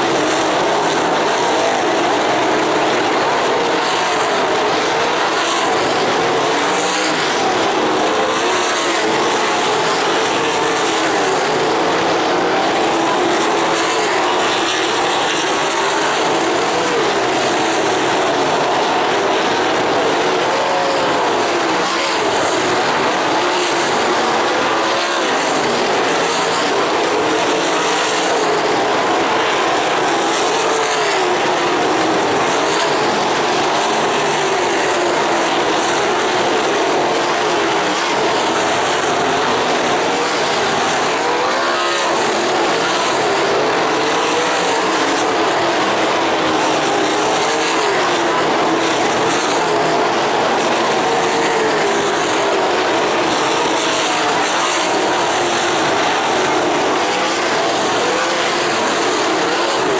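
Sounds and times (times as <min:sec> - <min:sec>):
race car engines roaring: 0:00.0 - 0:59.9.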